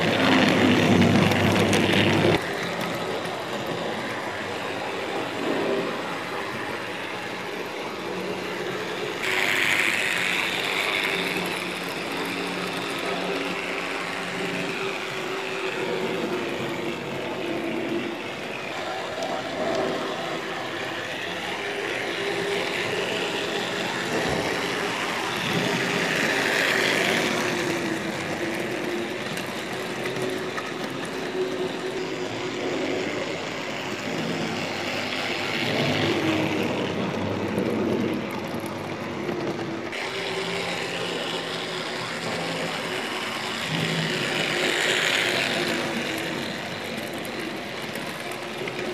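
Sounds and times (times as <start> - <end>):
model train motor hum: 0.0 - 48.9
wagons rattling over rails: 0.0 - 48.9.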